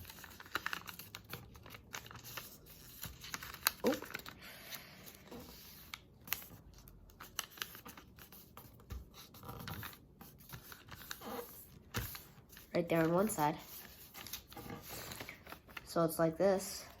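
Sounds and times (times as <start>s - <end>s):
paper rustling as folded: 0.0s - 17.0s.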